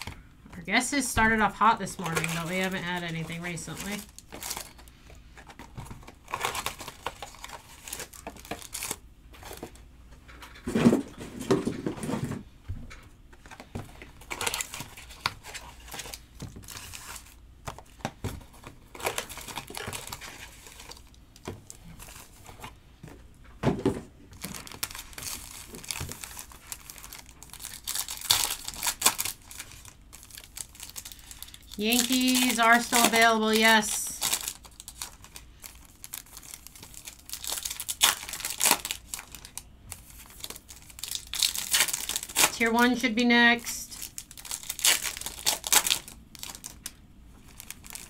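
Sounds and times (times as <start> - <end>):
foil wrappers crinkling: 0.0 - 9.8, 13.4 - 22.7, 24.3 - 48.0.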